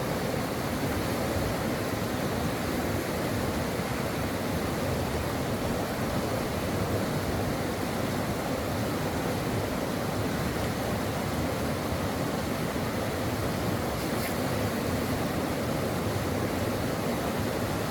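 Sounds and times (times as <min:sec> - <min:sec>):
stream flowing: 0:00.0 - 0:17.9.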